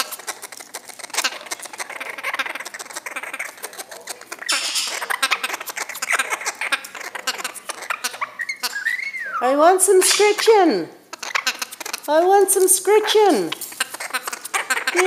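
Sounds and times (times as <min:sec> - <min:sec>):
parrot harsh call: 0:00.0 - 0:12.1, 0:13.3 - 0:15.0
parrot clicking and chattering: 0:00.0 - 0:15.0.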